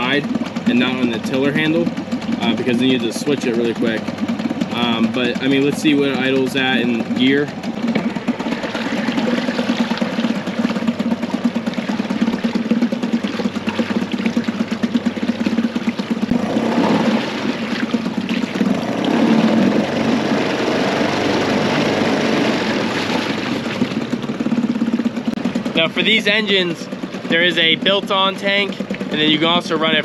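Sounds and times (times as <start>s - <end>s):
outboard engine running: 0.0s - 30.0s
propeller churning water: 0.0s - 30.0s.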